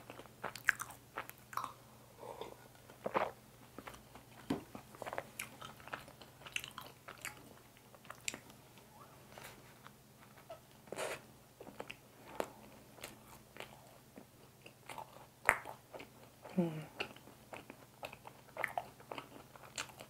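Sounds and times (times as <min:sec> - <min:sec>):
person chewing bun: 0:00.0 - 0:20.0.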